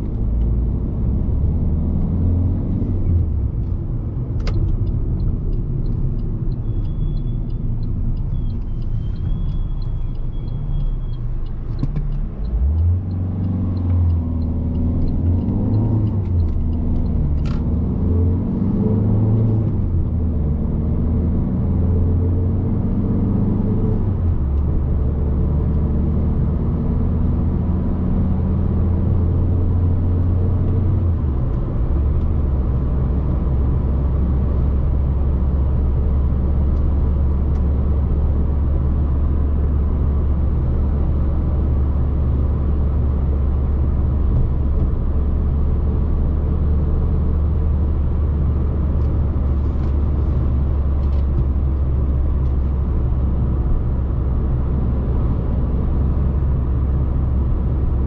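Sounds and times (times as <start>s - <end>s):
tyre and road noise: 0.0s - 22.2s, 29.7s - 58.0s.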